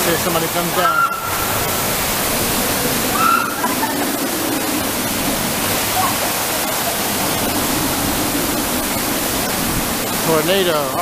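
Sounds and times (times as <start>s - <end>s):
water rushing down a slide: 0.0s - 11.0s.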